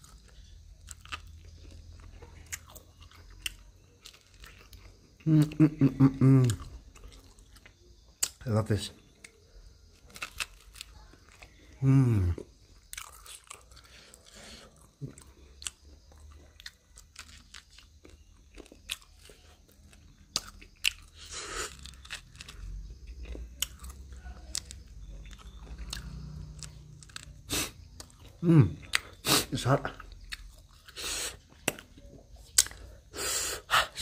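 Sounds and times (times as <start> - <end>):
person chewing crunchy corn: 0.0 - 8.4, 9.2 - 34.0.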